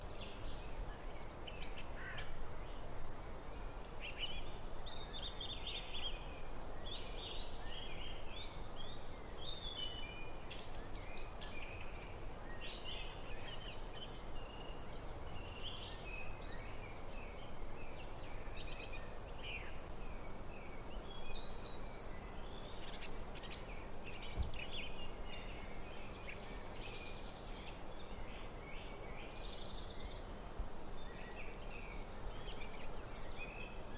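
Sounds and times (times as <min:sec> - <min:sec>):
outdoor background hiss: 0:00.0 - 0:33.9.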